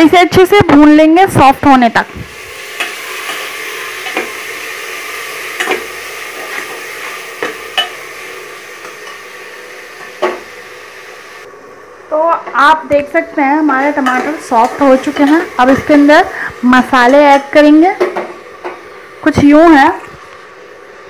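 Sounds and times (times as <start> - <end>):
vegetables sizzling in oil: 1.0 - 21.0.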